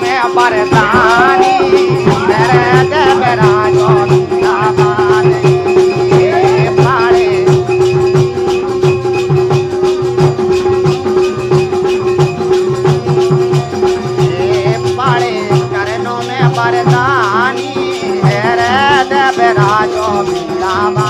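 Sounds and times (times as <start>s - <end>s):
person singing: 0.0s - 9.1s, 10.0s - 21.0s
drum beat: 0.0s - 21.0s
jingle percussion rattling: 0.0s - 21.0s.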